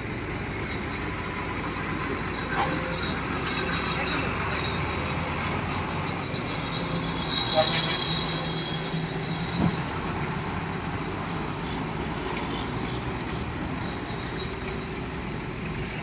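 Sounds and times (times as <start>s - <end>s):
diesel lorry engine running: 0.0s - 16.0s.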